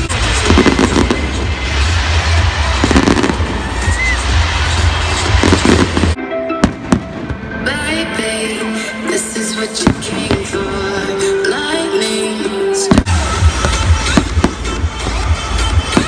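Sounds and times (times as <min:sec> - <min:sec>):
fireworks bursting and crackling: 0:00.0 - 0:08.2, 0:09.7 - 0:11.8, 0:12.9 - 0:16.0
music playing: 0:00.0 - 0:16.0.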